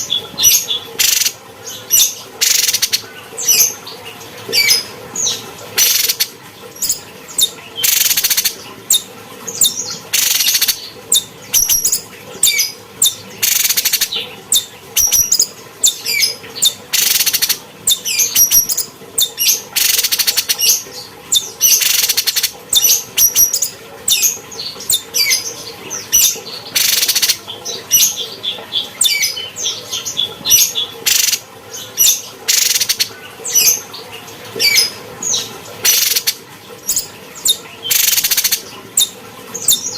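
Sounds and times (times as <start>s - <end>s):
bird singing with chirps: 0.0s - 3.8s, 4.6s - 33.8s, 34.6s - 39.9s.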